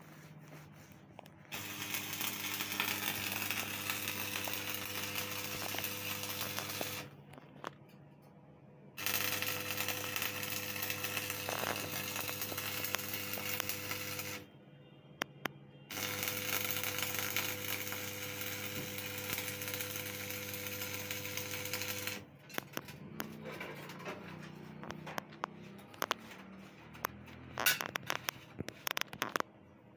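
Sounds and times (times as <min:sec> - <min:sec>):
welder mains hum: 0:00.0 - 0:08.2, 0:08.9 - 0:14.5, 0:15.9 - 0:29.4
welding arc crackling: 0:01.4 - 0:07.2, 0:09.0 - 0:14.5, 0:15.9 - 0:29.5.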